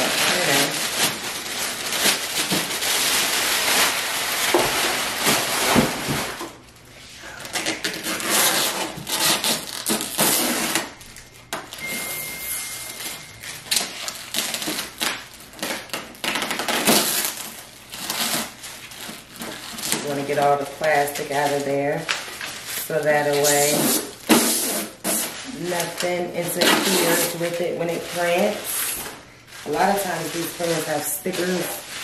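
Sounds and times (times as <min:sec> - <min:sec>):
plastic film crinkling: 0:00.0 - 0:32.0.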